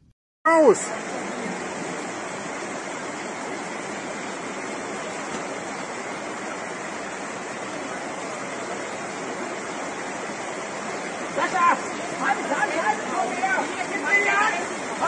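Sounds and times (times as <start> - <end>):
floodwater rushing: 0.5 - 15.0.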